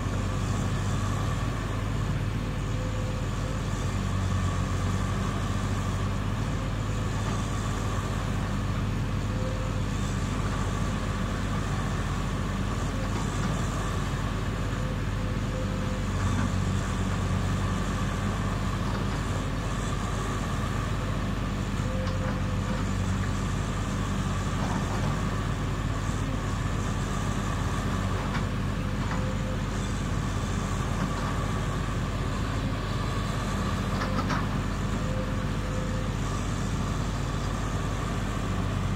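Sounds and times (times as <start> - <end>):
excavator diesel engine running: 0.0 - 38.9
hydraulic high whine: 0.0 - 38.9.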